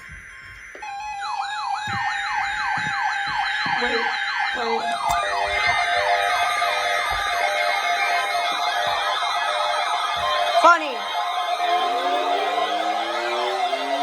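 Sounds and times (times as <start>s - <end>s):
weather radio alarms: 0.0s - 14.0s.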